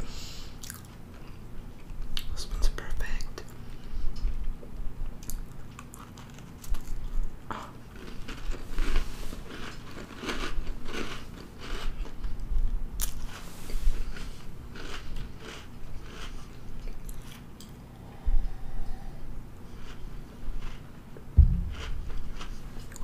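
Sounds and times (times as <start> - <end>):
person chewing cookie: 0.5 - 2.3, 3.4 - 23.0.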